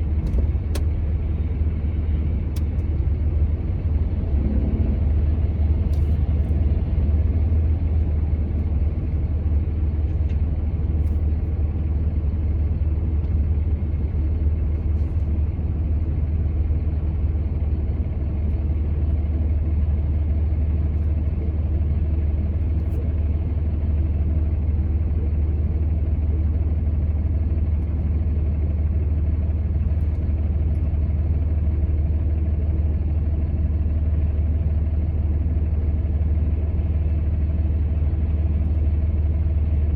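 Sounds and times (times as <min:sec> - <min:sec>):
vehicle driving rumble: 0:00.0 - 0:39.9.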